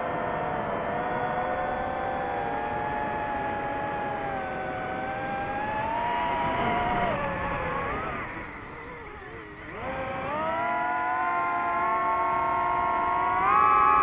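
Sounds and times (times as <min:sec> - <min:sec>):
drone propellers whining: 0:01.7 - 0:14.0.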